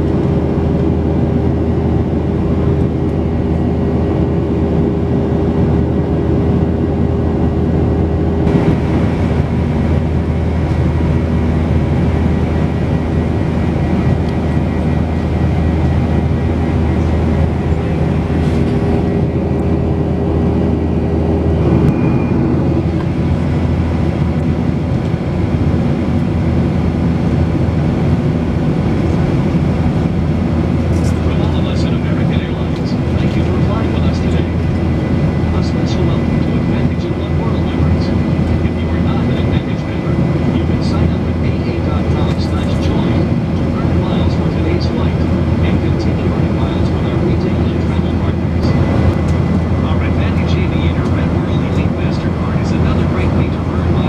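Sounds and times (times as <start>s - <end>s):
airliner cabin engine noise: 0.0s - 54.0s.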